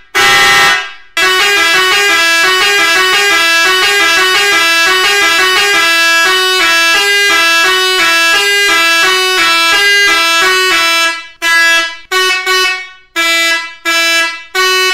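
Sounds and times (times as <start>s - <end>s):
air horn blasts: 0.1s - 14.9s
musical air horn melody: 0.1s - 14.9s.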